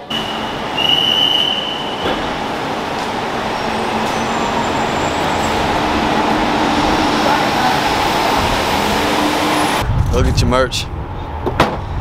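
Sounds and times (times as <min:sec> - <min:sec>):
high steady tone: 0:00.0 - 0:09.8
road vehicle rumble and hiss: 0:00.0 - 0:10.1.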